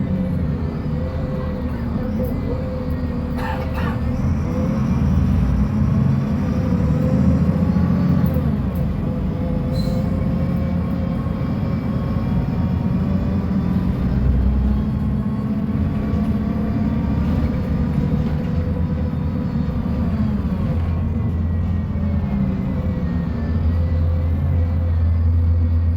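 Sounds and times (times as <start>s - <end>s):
bus diesel engine rumbling: 0.0s - 25.9s.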